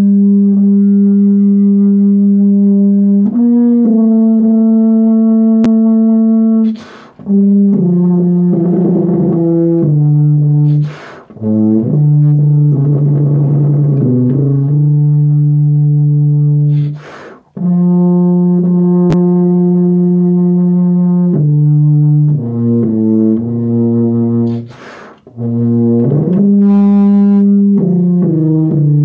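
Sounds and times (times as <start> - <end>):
tuba playing slow melody: 0.0 - 29.0.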